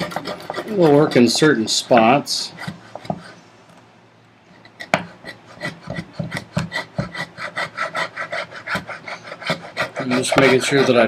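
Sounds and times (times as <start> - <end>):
router plane scraping wood: 0.0 - 3.4, 4.9 - 11.0.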